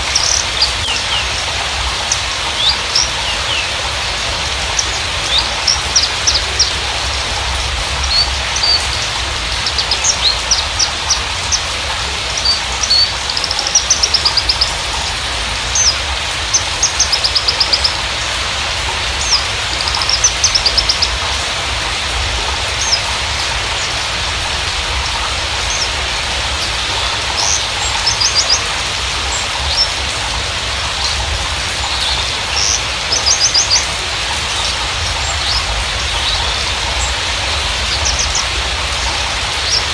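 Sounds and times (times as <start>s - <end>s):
bird trills and chirps: 0.0s - 39.9s
steady hiss: 0.0s - 39.9s.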